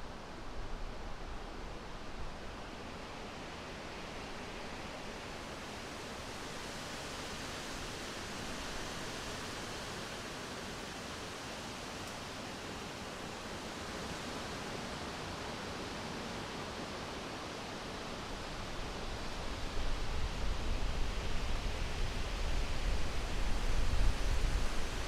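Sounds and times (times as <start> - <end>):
wind in trees: 0.0 - 25.0.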